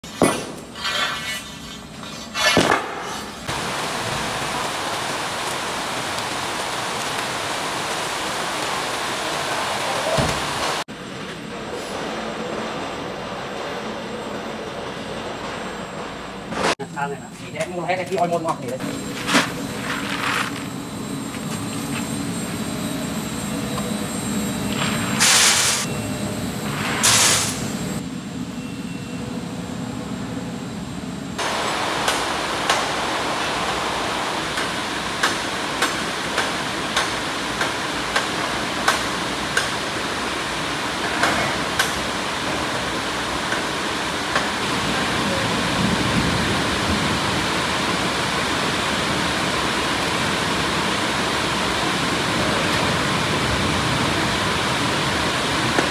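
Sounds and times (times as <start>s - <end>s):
furnace roaring: 0.0s - 55.9s
machinery humming: 0.0s - 55.9s.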